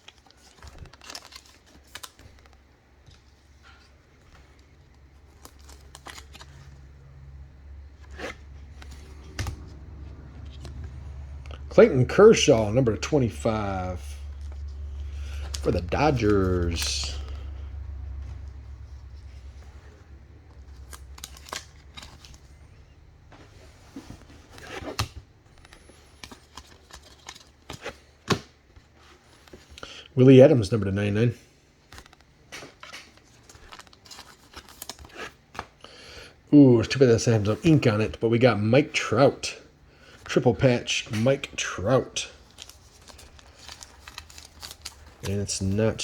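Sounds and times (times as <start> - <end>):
trading cards handled by hand: 0.0 - 30.0, 31.6 - 46.0
low steady hum: 0.0 - 46.0.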